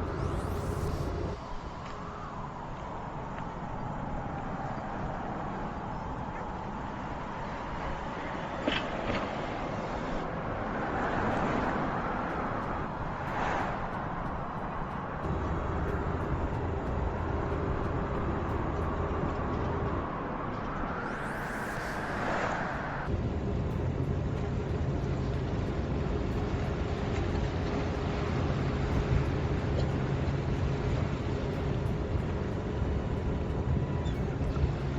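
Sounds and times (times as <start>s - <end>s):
road and tyre noise: 0.0s - 34.9s.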